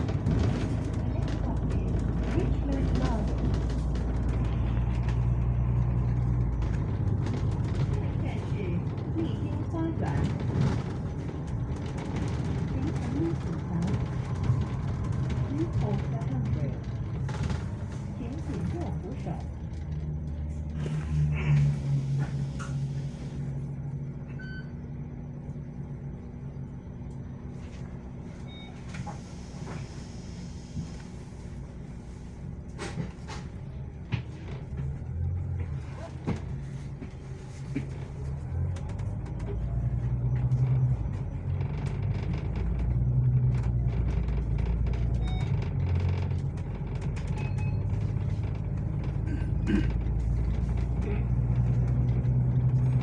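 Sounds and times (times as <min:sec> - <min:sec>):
bus engine rumbling: 0:00.0 - 0:53.0.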